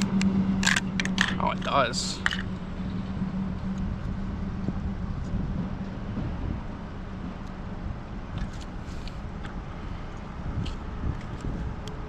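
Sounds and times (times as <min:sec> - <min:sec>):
low background rumble: 0:00.0 - 0:12.0
steady hum: 0:00.0 - 0:12.0.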